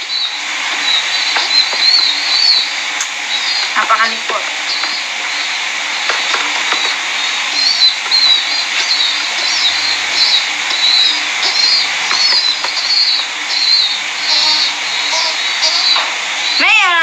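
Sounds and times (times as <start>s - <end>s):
pet bird chirping: 0.0s - 17.0s.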